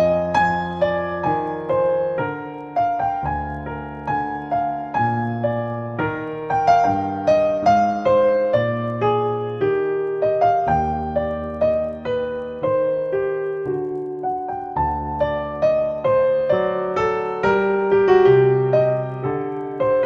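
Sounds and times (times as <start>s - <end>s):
slow solo piano melody: 0.0s - 20.0s.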